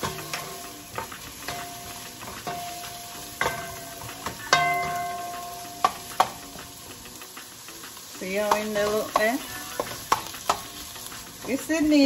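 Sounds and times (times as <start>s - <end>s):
vegetables sizzling: 0.0s - 12.0s.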